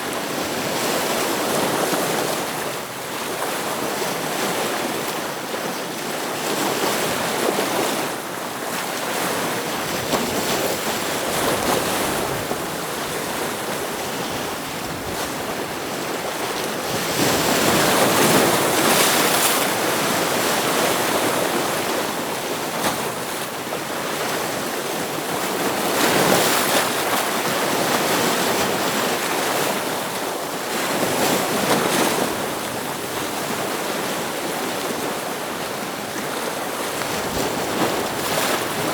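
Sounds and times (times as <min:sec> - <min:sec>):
ocean waves breaking on rocks: 0:00.0 - 0:38.9.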